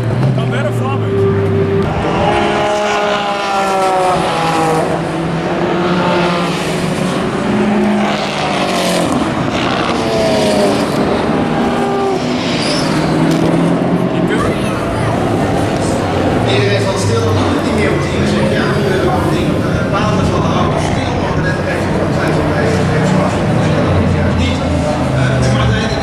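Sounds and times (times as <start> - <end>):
racing cars passing at speed: 0.0 - 26.0.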